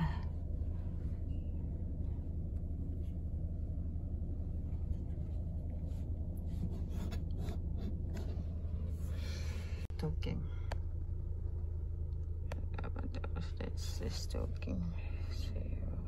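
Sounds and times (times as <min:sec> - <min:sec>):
car engine rumble in cabin: 0:00.0 - 0:16.0.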